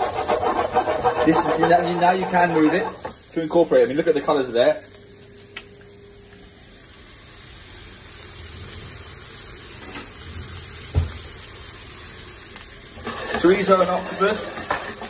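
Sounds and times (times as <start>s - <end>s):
food sizzling in a frying pan: 1.5s - 15.0s.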